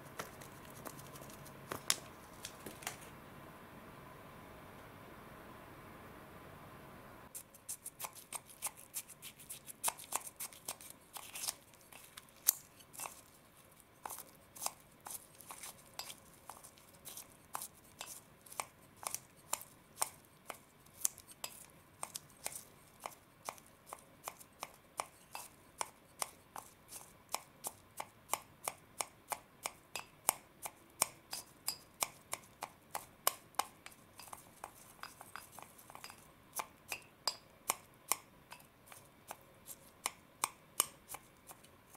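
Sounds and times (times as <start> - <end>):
chopsticks stirring slime: 0.0 - 3.1, 7.3 - 41.9.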